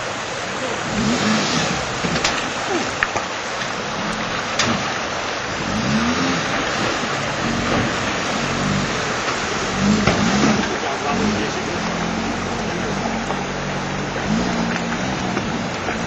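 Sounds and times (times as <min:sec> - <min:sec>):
engine revving: 0:00.0 - 0:16.0
rushing water and splashing: 0:00.0 - 0:16.0
wheels knocking on stones: 0:02.0 - 0:16.0.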